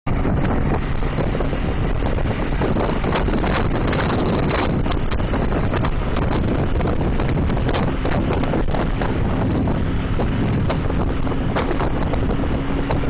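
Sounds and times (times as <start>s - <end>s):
motorcycle engine and road rumble: 0.1s - 13.0s
wind buffeting microphone: 0.1s - 13.0s.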